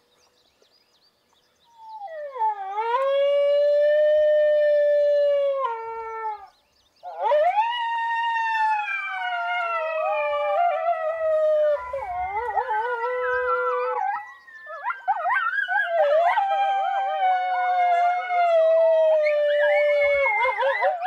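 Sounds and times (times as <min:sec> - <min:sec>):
coyote howls from predator call: 0:01.7 - 0:21.0.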